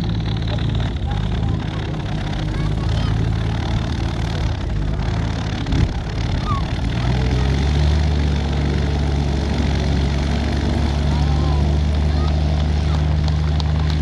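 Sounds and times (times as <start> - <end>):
light aircraft piston engine: 0.0 - 14.0.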